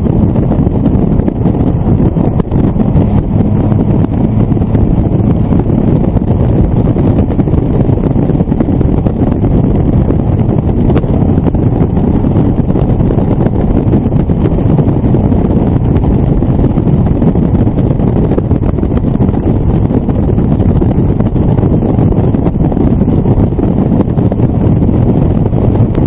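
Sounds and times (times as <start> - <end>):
vehicle engine: 0.0 - 26.0
wind buffeting microphone: 0.0 - 26.0.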